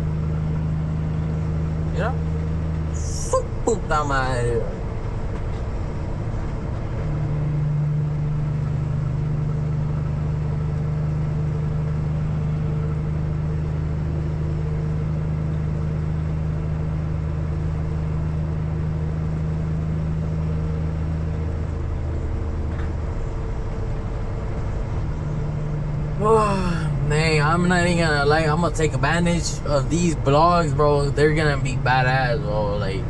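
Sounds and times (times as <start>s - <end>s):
truck diesel engine droning: 0.0s - 33.0s.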